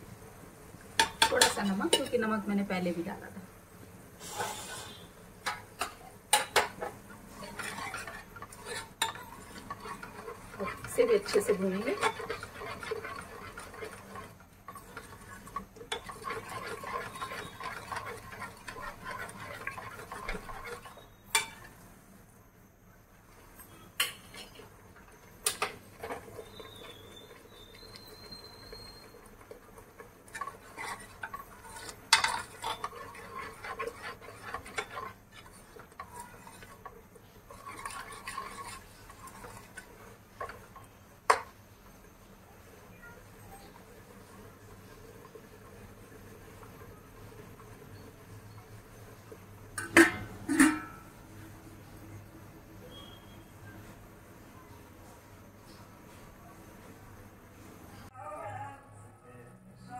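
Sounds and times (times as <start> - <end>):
spoon stirring and scraping in pan: 0.8 - 2.6, 4.2 - 21.9, 23.2 - 56.4.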